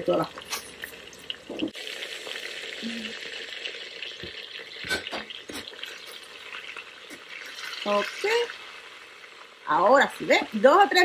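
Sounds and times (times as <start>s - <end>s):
chicken sizzling in butter: 0.0s - 11.0s.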